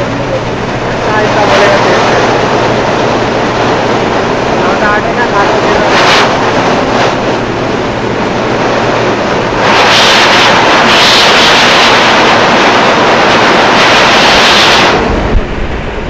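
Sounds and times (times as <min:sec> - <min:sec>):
bagging machine mechanical rush: 0:00.0 - 0:16.0.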